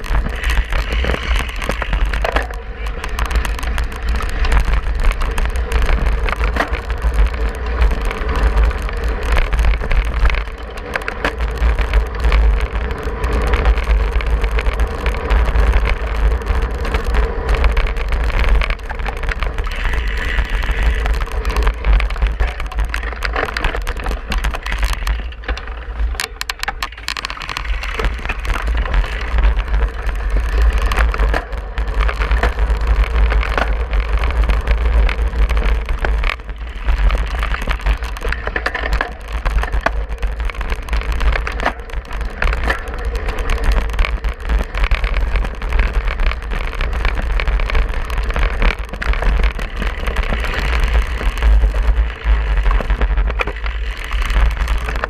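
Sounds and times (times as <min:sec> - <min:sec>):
bike rattling: 0:00.0 - 0:55.0
tyres over grass and gravel: 0:00.0 - 0:55.0.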